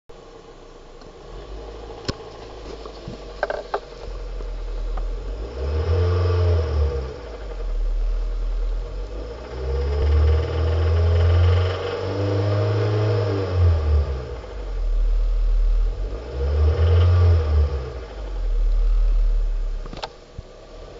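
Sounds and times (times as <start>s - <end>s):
car engine revving with knock: 1.0s - 20.1s.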